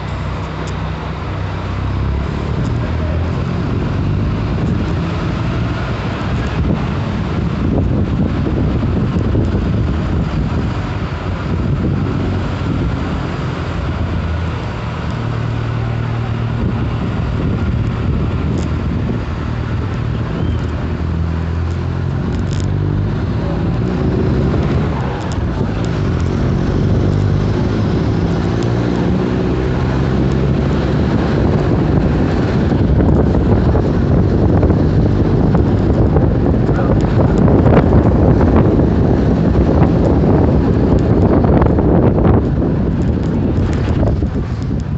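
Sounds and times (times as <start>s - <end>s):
bus diesel engine exhaust: 0.0s - 44.9s.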